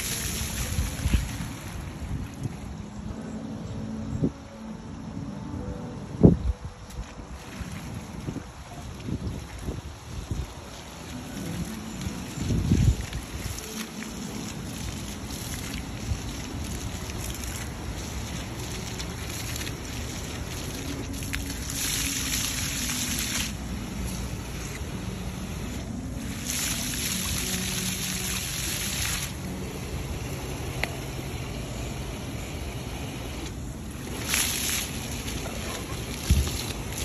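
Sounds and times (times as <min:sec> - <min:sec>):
water jets spraying: 0:00.0 - 0:03.0, 0:06.9 - 0:37.0
low outdoor rumble: 0:00.0 - 0:37.0.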